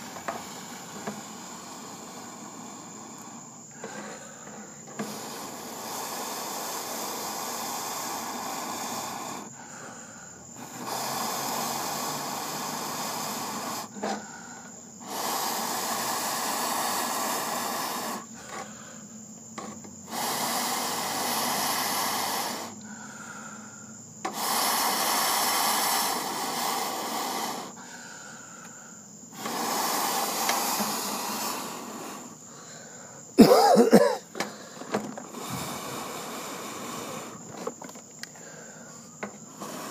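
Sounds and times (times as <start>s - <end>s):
person blowing onto embers: 0.0s - 39.9s.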